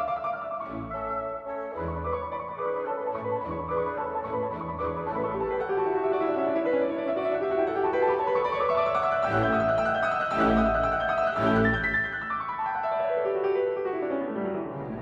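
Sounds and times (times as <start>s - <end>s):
heavy low piano chords: 0.0s - 15.0s
piano music: 0.0s - 15.0s.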